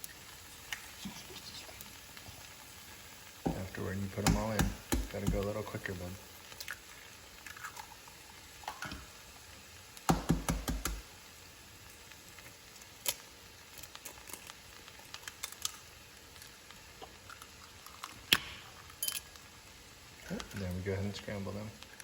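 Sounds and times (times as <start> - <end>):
rice sizzling in a pan: 0.0 - 22.0.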